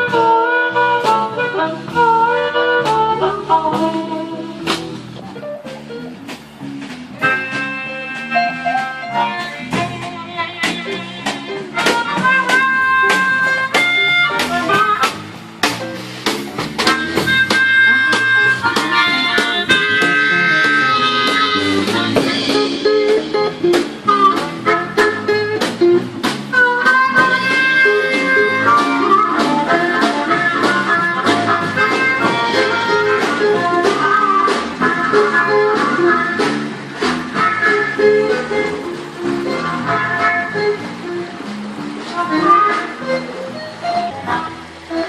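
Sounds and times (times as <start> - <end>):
guitar rhythm: 0.0 - 45.0
harmonica bent notes: 0.0 - 45.0.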